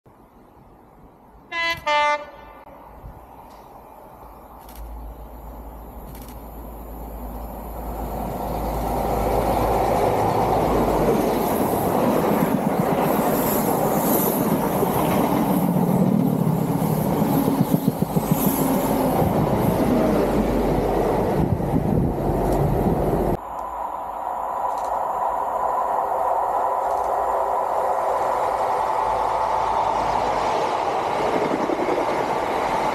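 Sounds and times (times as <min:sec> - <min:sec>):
diesel train passing: 0:00.1 - 0:32.9
distant diesel train approaching: 0:00.1 - 0:32.9.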